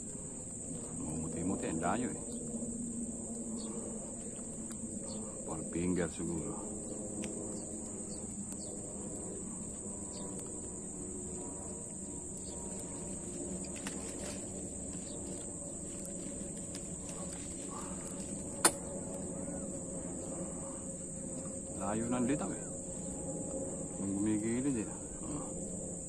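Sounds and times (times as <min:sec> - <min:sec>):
high-pitched insect drone: 0:00.0 - 0:26.0
low hum: 0:00.0 - 0:26.0
faint chirps: 0:03.3 - 0:25.8.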